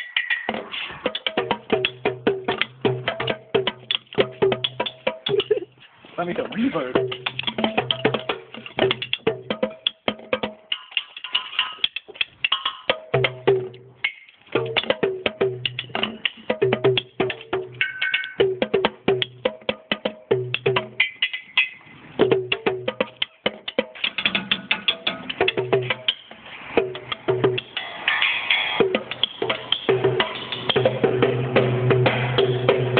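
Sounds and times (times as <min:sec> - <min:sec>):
small drums beaten fast: 0:00.0 - 0:32.9.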